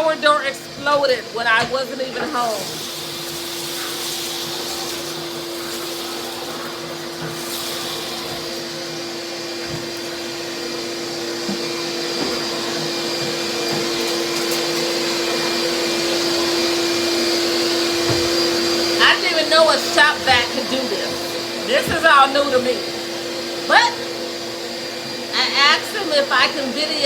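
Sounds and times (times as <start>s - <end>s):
shop vac motor whine: 0.0s - 27.0s.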